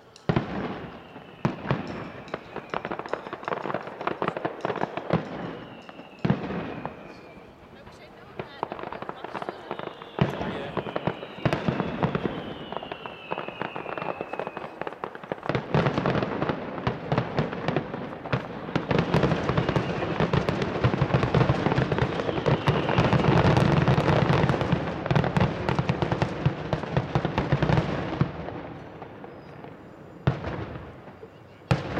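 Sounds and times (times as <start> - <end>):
fireworks booming and crackling: 0.0 - 31.9
falling firework whistle: 0.3 - 26.3, 27.4 - 31.9
firework bang: 0.3 - 31.9.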